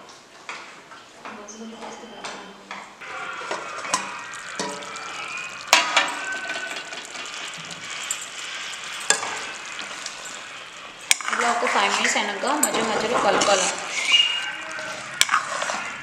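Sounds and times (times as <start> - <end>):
chicken sizzling in a pan: 3.0 - 16.0
metal spatula scraping a pan: 3.1 - 16.0.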